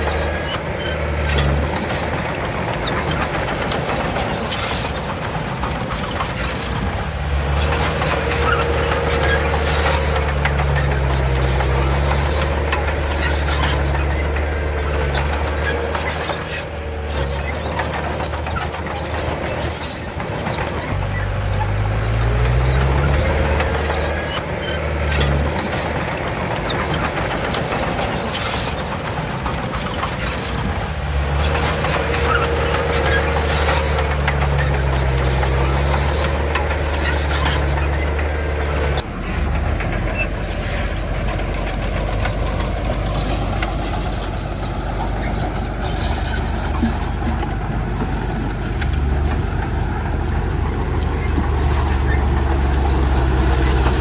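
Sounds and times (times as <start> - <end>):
bulldozer diesel engine working: 0.0 - 54.0
high metallic squeaks and clicks: 0.0 - 54.0.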